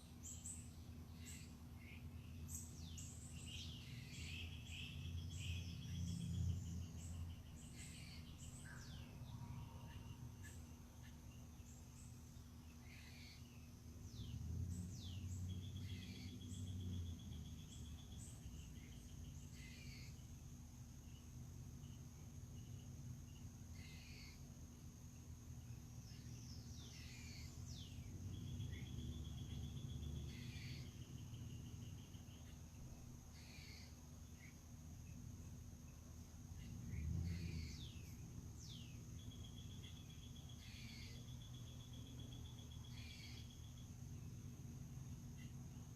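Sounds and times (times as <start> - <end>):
birds calling and singing: 0.0 - 45.9.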